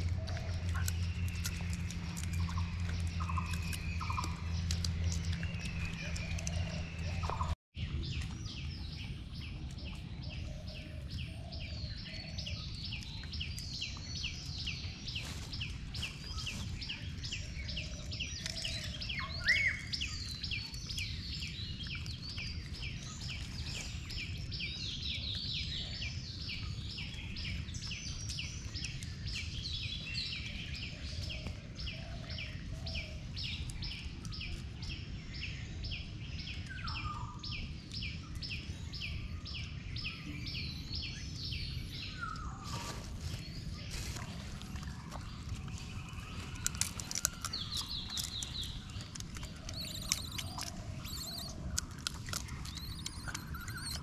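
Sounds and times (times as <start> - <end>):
birds chirping: 0.0 - 54.0
low constant rumble: 0.0 - 54.0.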